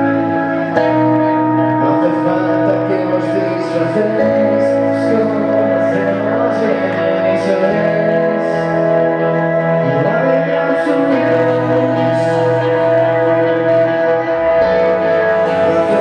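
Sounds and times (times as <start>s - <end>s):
electric guitars: 0.0s - 16.0s
keyboard holding chords: 0.0s - 16.0s
rock band playing: 0.0s - 16.0s.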